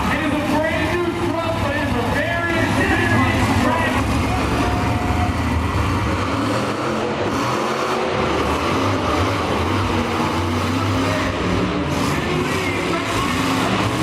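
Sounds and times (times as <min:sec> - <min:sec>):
truck engines running loud: 0:00.0 - 0:14.0.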